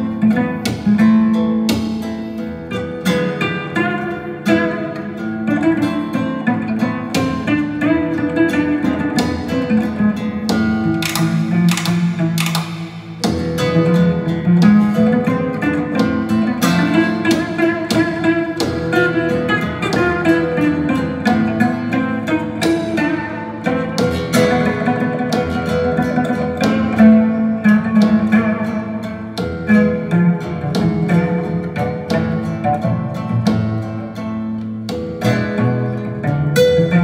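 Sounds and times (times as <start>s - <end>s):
plucked guitar music: 0.0s - 37.0s.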